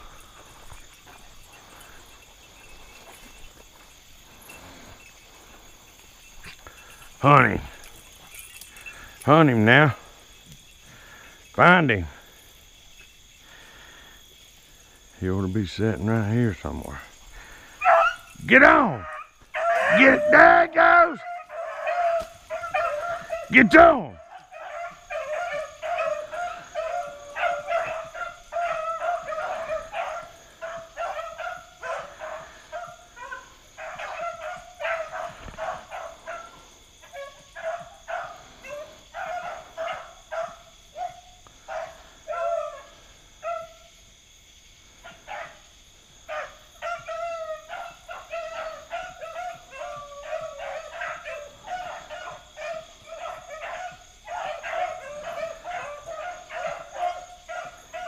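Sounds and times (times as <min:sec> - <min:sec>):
pack of dogs baying: 0:00.0 - 0:58.0.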